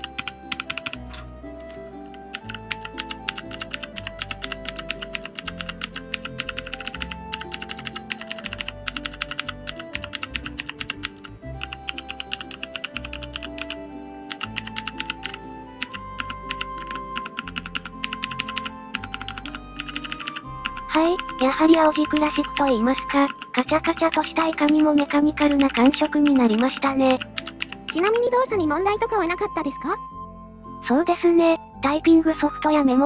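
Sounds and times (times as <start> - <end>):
fast mechanical keyboard typing: 0.0 - 1.0, 2.2 - 28.3
background music: 0.0 - 33.0.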